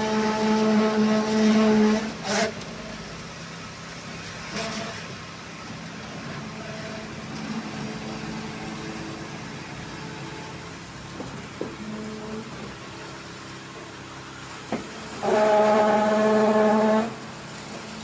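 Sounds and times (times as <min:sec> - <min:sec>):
machinery engine drone: 0:00.0 - 0:18.0.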